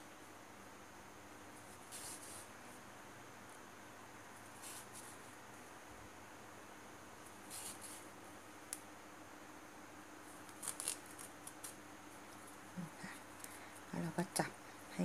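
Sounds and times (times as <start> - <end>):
steady light hiss: 0.0 - 15.0.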